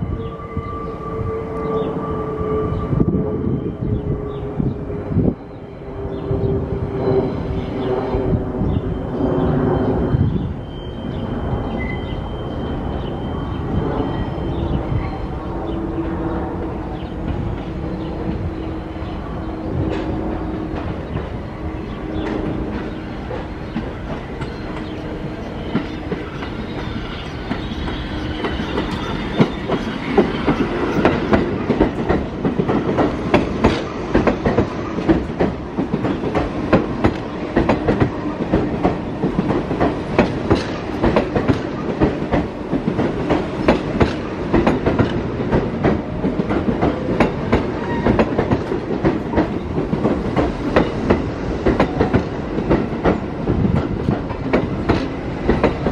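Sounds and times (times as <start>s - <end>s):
subway train whine: 0.0s - 55.9s.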